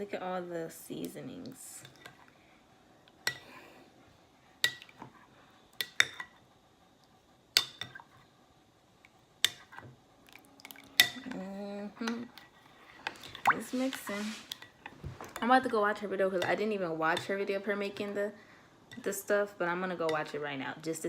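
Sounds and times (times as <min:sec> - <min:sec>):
spoon stirring in a dish: 0:01.0 - 0:08.3, 0:09.0 - 0:18.3, 0:18.9 - 0:20.5.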